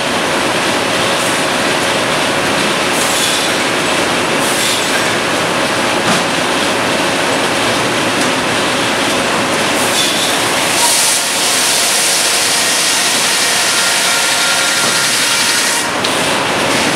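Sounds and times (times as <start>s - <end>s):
sawmill machinery running: 0.0s - 16.9s.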